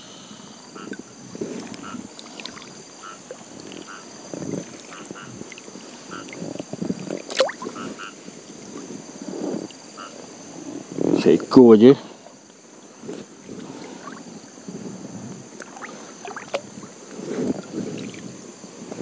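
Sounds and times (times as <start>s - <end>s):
frogs chirping: 0.0s - 19.0s
insects buzzing: 0.0s - 19.0s
river water sloshing and splashing: 0.8s - 11.1s, 12.0s - 19.0s.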